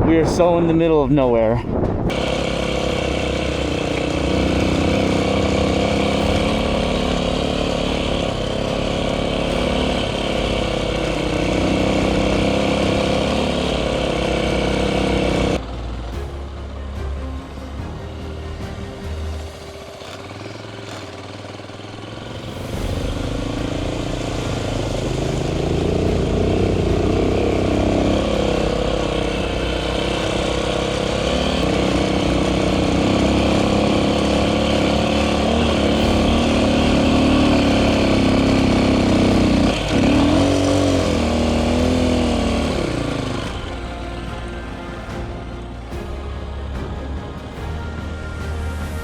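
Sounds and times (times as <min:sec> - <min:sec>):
motorcycle engine under load: 0:02.0 - 0:47.6.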